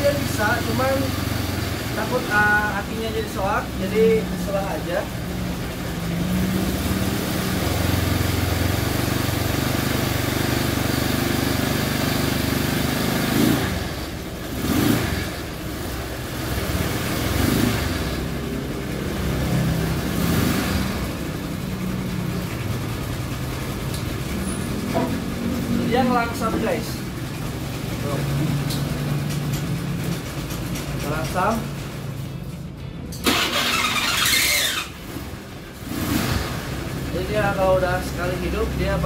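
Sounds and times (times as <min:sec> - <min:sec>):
scooter engine running unevenly: 0:00.0 - 0:32.3.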